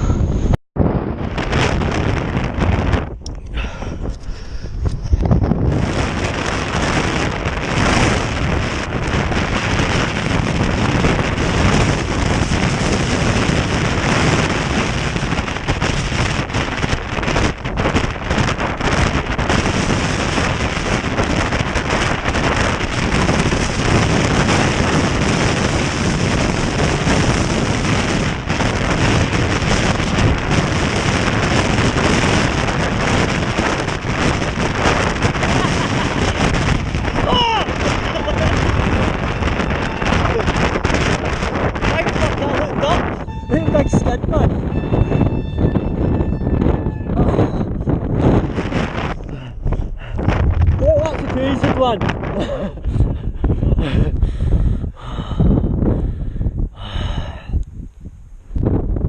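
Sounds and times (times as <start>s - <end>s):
strong wind on microphone: 0.0s - 59.0s.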